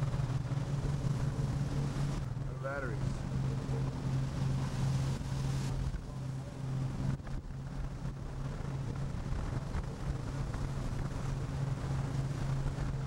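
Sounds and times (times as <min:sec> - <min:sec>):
diesel boat engine drone: 0:00.0 - 0:13.0
wind on microphone: 0:00.0 - 0:13.0.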